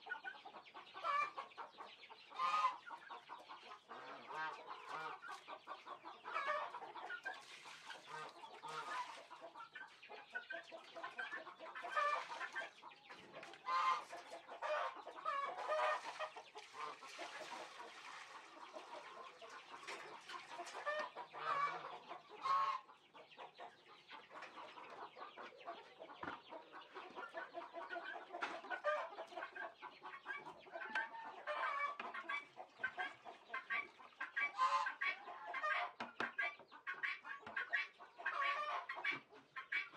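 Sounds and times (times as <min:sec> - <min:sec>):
fowl clucking: 0:00.0 - 0:39.9.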